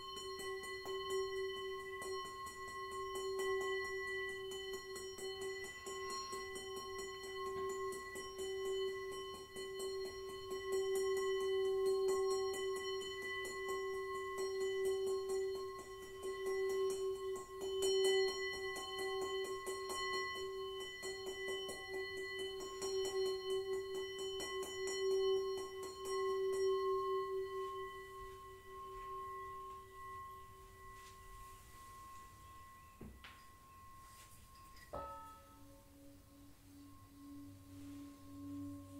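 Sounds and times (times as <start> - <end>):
singing bowl ringing: 0.0 - 38.9.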